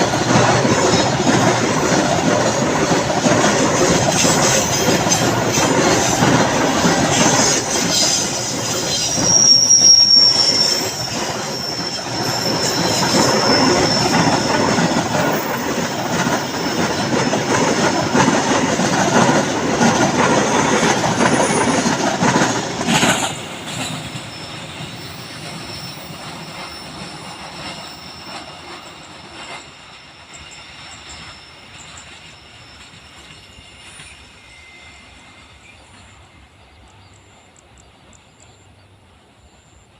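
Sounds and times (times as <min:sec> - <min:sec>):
train rumbling past: 0:00.0 - 0:39.9
train wheels squealing: 0:00.0 - 0:39.9.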